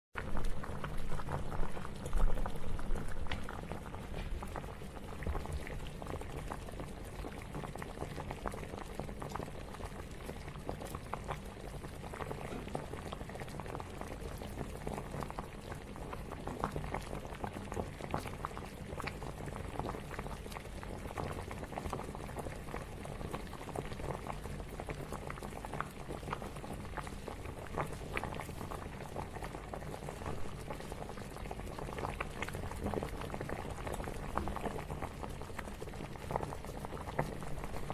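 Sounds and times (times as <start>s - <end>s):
water boiling and bubbling: 0.2s - 37.9s.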